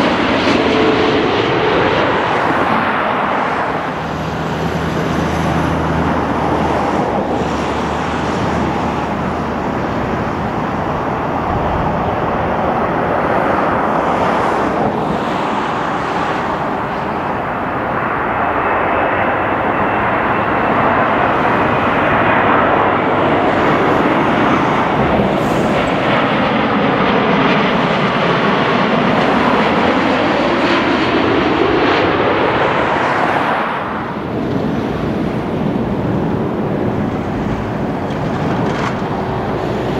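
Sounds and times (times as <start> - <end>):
jet airliner passing overhead: 0.0 - 39.9.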